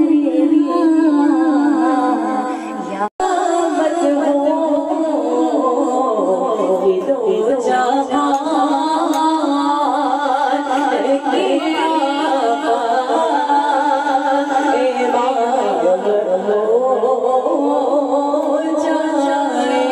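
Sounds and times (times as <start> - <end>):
voices singing devotional song: 0.0 - 19.9.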